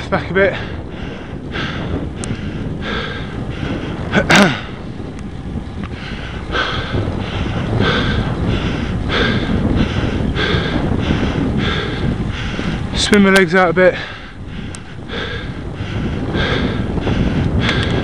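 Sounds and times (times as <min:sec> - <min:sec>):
road rumble: 0:00.0 - 0:18.0
wind: 0:00.0 - 0:18.0
person breathing hard: 0:00.6 - 0:05.0, 0:05.9 - 0:13.0, 0:14.0 - 0:18.0.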